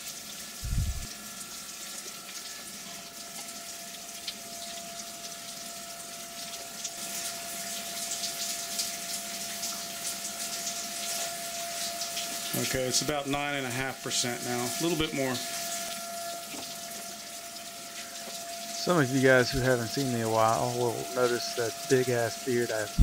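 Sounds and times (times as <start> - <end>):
coolant pump humming: 0.0 - 23.0
coolant splashing: 0.0 - 23.0.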